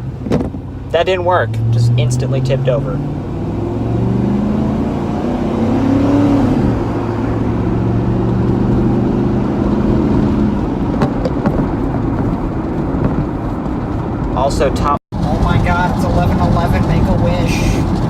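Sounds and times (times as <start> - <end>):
road noise: 0.0 - 18.0
truck engine accelerating: 0.0 - 18.0.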